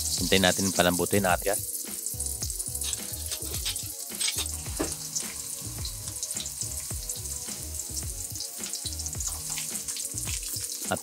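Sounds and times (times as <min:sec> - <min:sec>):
garlic and onion sizzling in oil: 0:00.0 - 0:11.0
oil crackling: 0:00.0 - 0:11.0.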